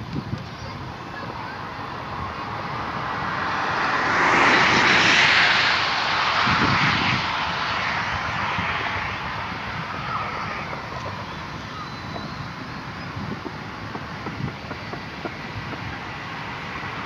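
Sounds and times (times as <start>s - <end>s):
vehicle passing by: 1.1s - 17.0s.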